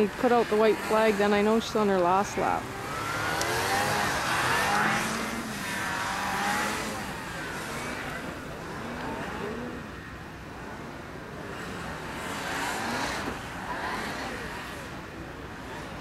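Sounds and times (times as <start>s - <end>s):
snowmobile engines revving: 0.0s - 16.0s.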